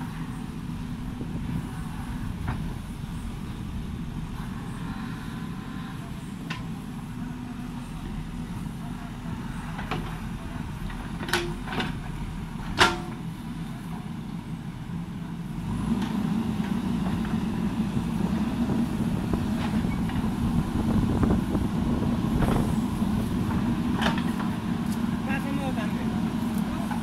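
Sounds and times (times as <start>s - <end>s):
diesel engine running: 0.0s - 27.0s
hydraulics lifting: 0.0s - 27.0s.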